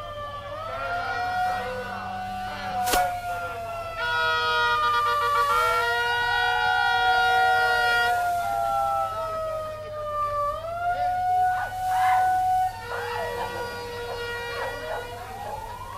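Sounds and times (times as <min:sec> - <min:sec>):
overlapping siren tones: 0:00.0 - 0:15.9.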